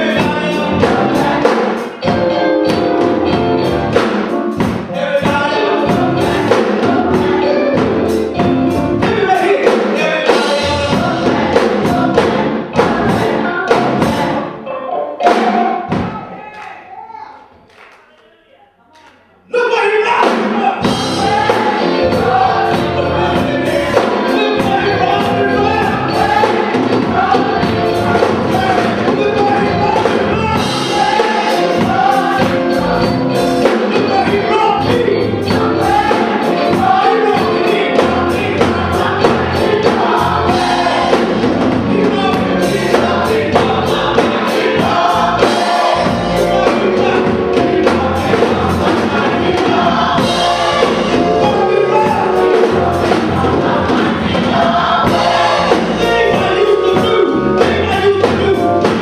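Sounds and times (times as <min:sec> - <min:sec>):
drums keeping a beat: 0:00.0 - 0:14.4, 0:15.2 - 0:16.3, 0:20.2 - 0:59.0
live band: 0:00.0 - 0:16.2, 0:20.0 - 0:59.0
gospel choir singing: 0:00.0 - 0:16.4, 0:17.4 - 0:59.0.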